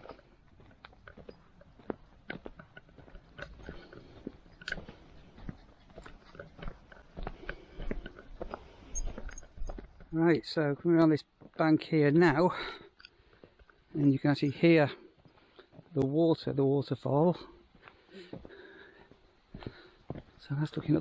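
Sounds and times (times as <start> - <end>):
footsteps crunching on path: 0.0 - 21.0.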